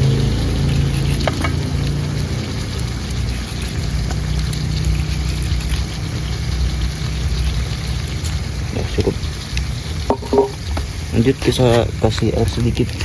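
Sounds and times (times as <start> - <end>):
food simmering and bubbling: 0.0 - 13.0.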